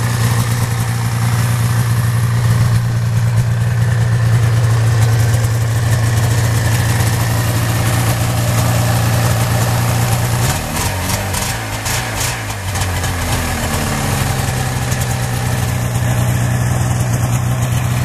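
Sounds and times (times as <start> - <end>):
snowmobile engine idling: 0.0 - 18.0.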